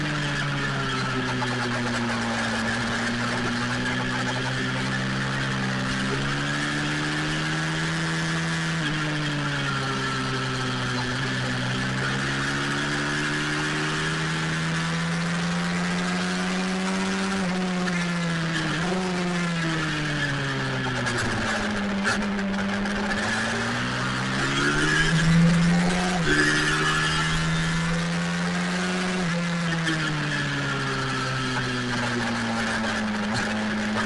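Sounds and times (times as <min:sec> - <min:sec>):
pit bike engine running: 0:00.0 - 0:34.0.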